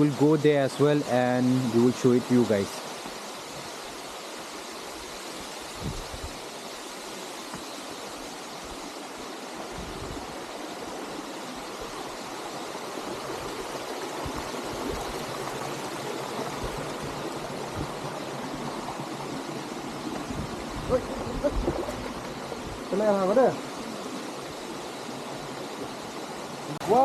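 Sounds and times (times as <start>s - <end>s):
waterfall and stream rushing: 0.0s - 27.0s.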